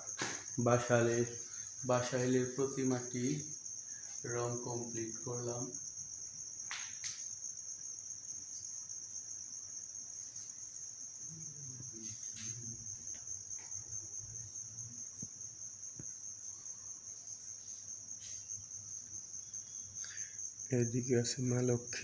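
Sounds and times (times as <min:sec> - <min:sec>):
high-pitched insect trill: 0:00.0 - 0:22.0.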